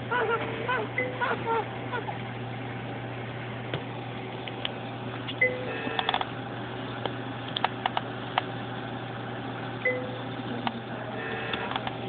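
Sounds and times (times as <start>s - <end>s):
low electrical hum and hiss: 0.0s - 12.0s.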